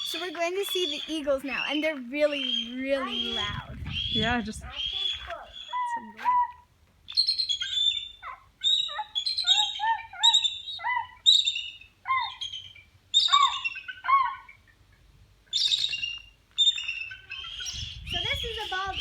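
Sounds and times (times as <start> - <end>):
eagle chirping calls: 0.0 - 14.6, 15.5 - 19.0.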